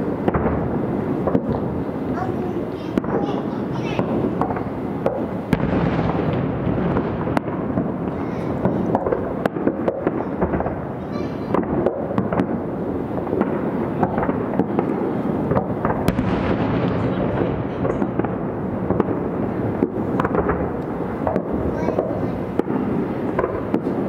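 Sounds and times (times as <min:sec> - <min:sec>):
firework booms: 0:00.0 - 0:24.0
firework cracks and bangs: 0:00.0 - 0:24.0.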